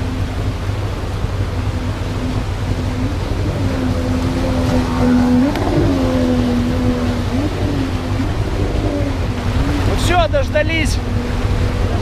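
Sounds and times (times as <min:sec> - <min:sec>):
outboard motor running: 0:00.0 - 0:12.0
white water rushing: 0:00.0 - 0:12.0.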